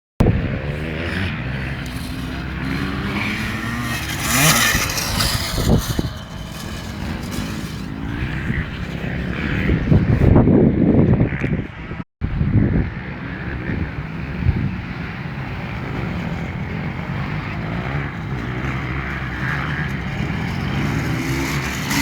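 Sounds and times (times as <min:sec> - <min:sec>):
dirt bike engine revving: 0:00.3 - 0:10.4, 0:12.9 - 0:22.0.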